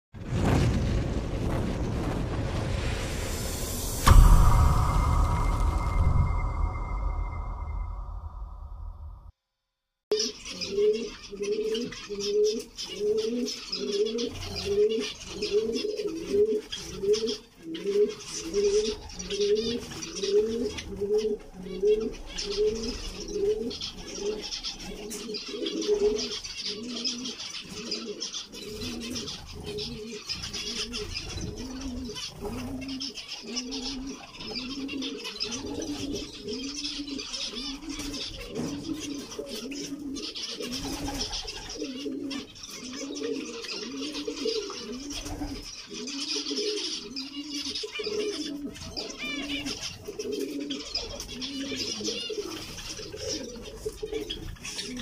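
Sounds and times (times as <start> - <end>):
dove cooing: 10.2 - 55.0.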